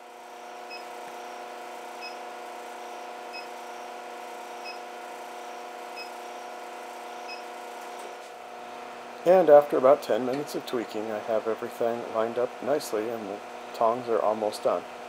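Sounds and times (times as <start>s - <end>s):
induction heater humming: 0.0s - 15.0s.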